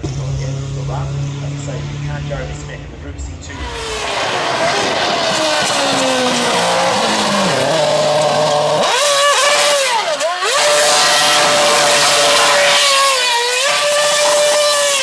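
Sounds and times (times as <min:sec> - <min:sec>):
race car passing by: 0:00.0 - 0:13.3
race car engine revving: 0:00.0 - 0:15.0.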